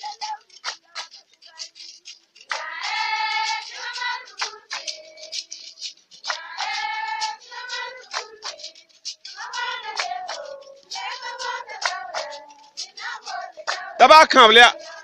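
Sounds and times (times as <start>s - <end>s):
women singing together: 0.0s - 14.0s, 14.6s - 15.0s
sharp percussive strikes: 0.0s - 15.0s.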